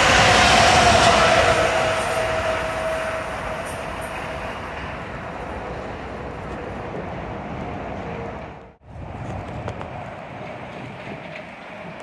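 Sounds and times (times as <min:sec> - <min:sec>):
electric train rumble and rail noise: 0:00.0 - 0:12.0.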